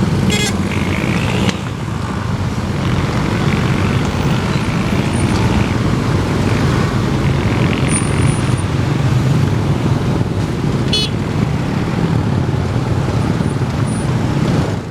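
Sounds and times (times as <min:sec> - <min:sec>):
vehicle rumble: 0:00.0 - 0:14.9.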